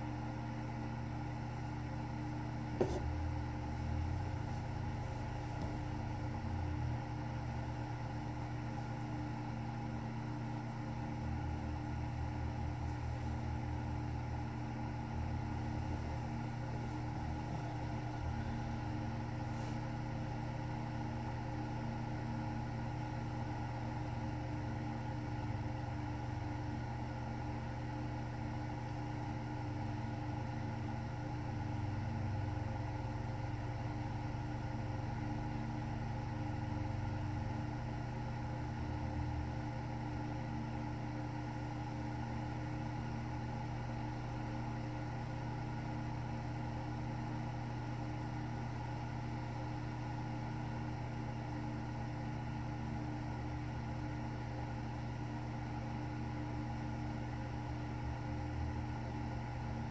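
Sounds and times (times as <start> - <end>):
steady low appliance hum: 0.0 - 59.9.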